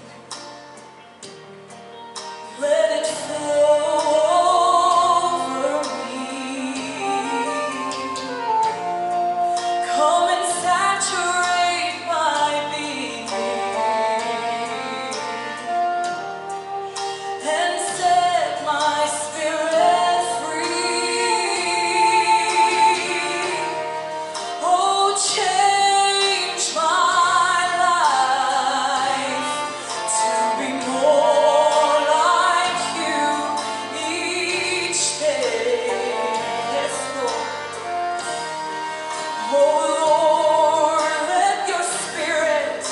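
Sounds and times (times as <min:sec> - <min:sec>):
instrumental backing: 0:00.0 - 0:42.9
woman singing with vibrato: 0:02.5 - 0:42.9.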